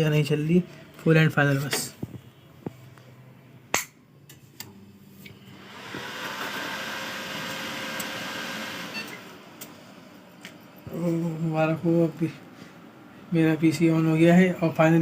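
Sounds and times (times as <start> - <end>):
computer fans whirring: 0.0 - 15.0.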